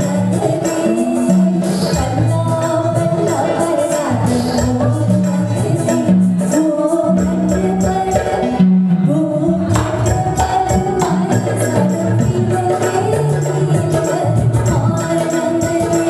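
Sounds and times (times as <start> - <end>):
hand drum and percussion beat: 0.0 - 16.0
woman singing into a microphone: 0.0 - 16.0.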